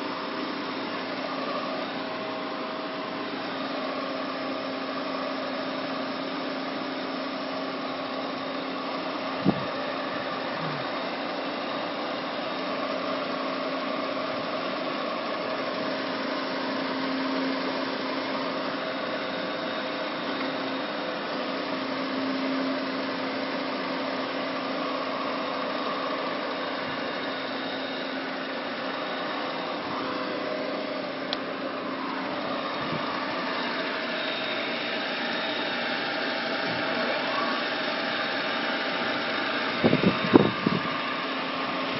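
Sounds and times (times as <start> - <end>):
grinder running with mechanical hum: 0.0 - 41.9.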